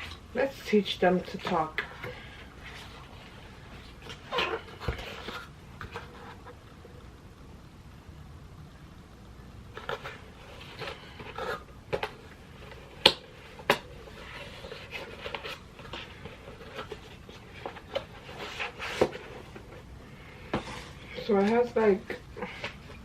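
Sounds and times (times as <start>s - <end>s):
cardboard rustling and scraping: 1.3s - 6.9s, 9.7s - 23.0s.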